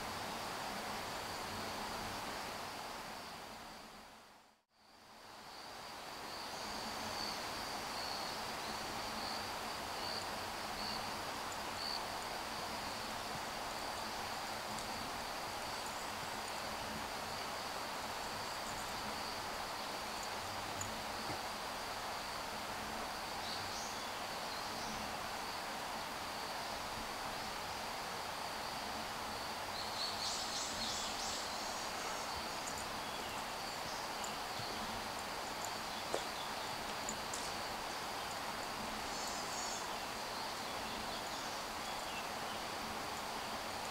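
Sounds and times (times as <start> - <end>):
soft hiss: 0.0 - 43.9
insects trilling: 4.8 - 43.9.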